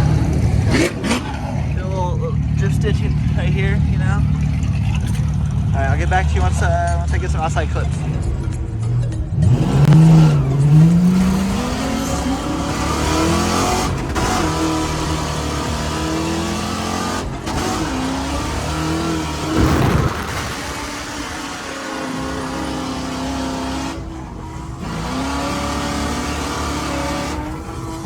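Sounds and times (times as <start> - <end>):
car engine revving hard: 0.0 - 28.0.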